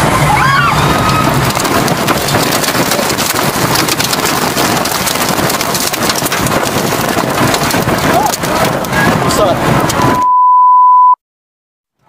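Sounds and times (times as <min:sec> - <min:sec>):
air buffeting microphone: 0:00.0 - 0:10.2.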